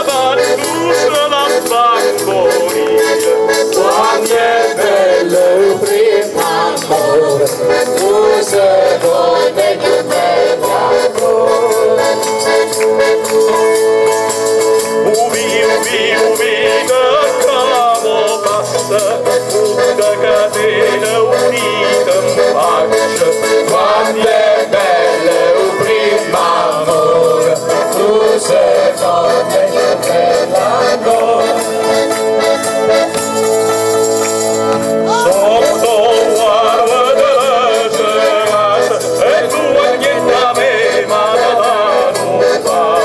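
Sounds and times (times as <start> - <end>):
men singing together: 0.0 - 14.0, 15.0 - 32.4, 35.1 - 43.0
instrumental accompaniment: 0.0 - 43.0
rattling percussion: 0.0 - 43.0.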